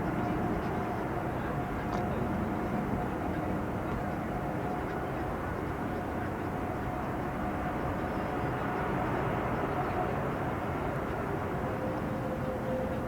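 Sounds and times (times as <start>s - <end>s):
faint engine whine: 0.0s - 13.0s.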